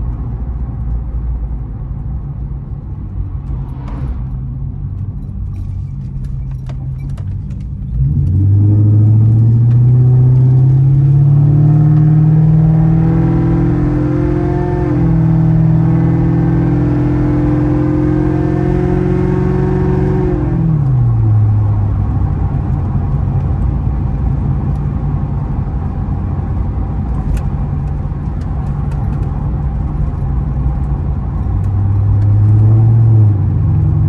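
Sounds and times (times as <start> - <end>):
car engine drone: 0.0 - 34.0
road and tyre noise: 0.0 - 34.0.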